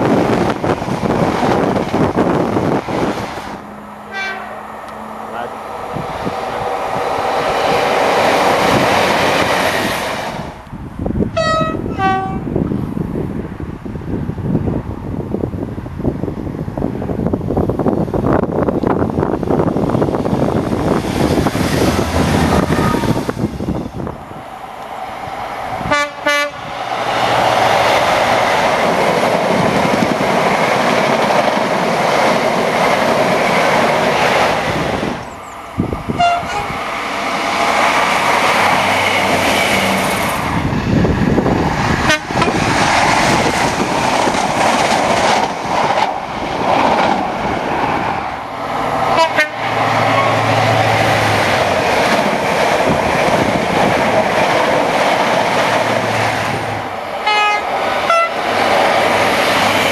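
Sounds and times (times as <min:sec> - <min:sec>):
train wheels on rails: 0:00.0 - 0:13.0, 0:16.1 - 0:59.9
diesel train engines running: 0:00.0 - 0:59.9.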